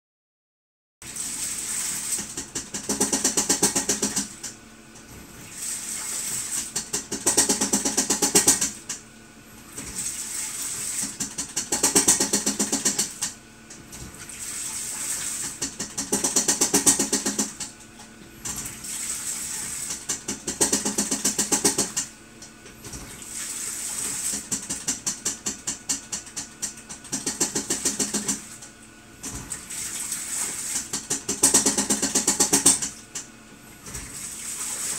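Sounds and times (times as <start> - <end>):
washing machine water sloshing: 1.0 - 34.9.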